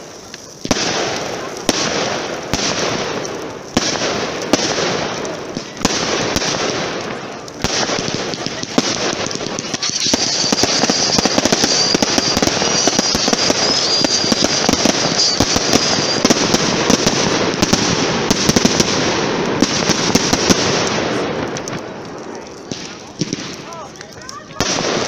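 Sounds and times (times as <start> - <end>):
fireworks crackling and popping: 0.0 - 25.0.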